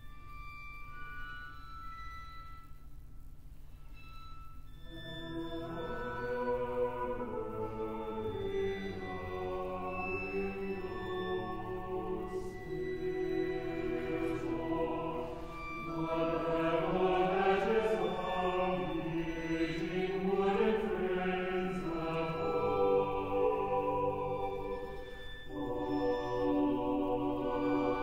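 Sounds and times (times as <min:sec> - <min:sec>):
choir and orchestra chords: 0:04.8 - 0:28.0.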